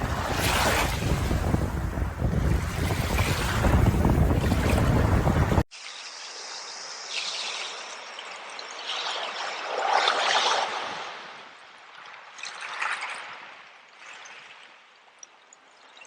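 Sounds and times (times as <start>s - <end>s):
water trickling and pouring: 0.0s - 16.0s.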